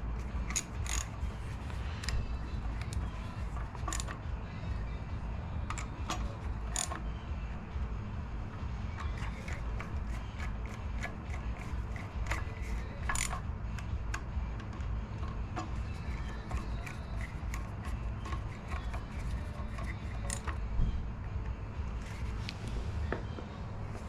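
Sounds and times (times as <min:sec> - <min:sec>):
metal parts and tools clicking: 0:00.0 - 0:04.9, 0:05.6 - 0:07.8, 0:08.4 - 0:20.8
steady low hum: 0:00.0 - 0:24.0.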